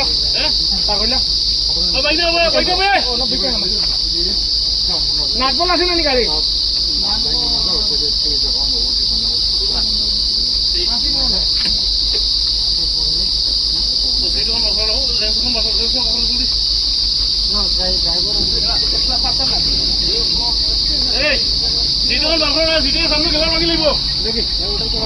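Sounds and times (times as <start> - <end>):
faint voices talking: 0.0 - 25.0
insects droning: 0.0 - 25.0.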